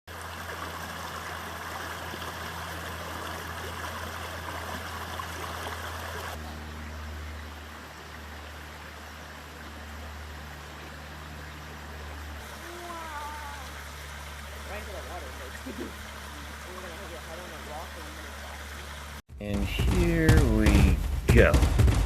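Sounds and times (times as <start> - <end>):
creek water rushing: 0.1 - 19.2
low steady hum: 0.1 - 21.9.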